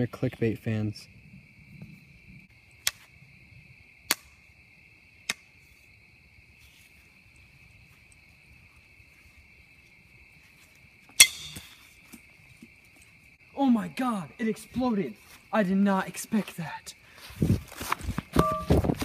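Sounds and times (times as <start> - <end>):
night insects chirping: 0.0 - 19.0.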